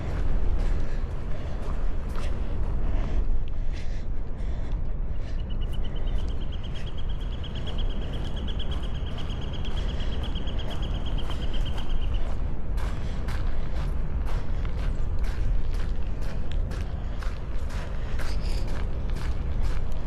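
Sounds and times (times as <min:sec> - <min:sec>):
footsteps crunching on path: 0:00.0 - 0:03.0, 0:04.4 - 0:20.0
wind buffeting microphone: 0:00.0 - 0:20.0.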